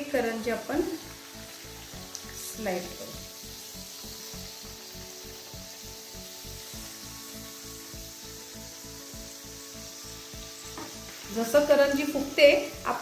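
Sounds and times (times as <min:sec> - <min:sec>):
food deep-frying in hot oil: 0:00.0 - 0:13.0
quiet background music: 0:00.0 - 0:13.0.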